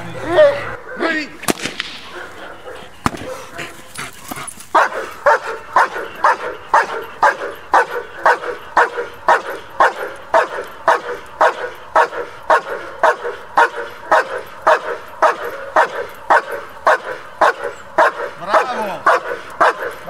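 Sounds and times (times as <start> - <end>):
dog barking rhythmically: 2.0 - 20.0.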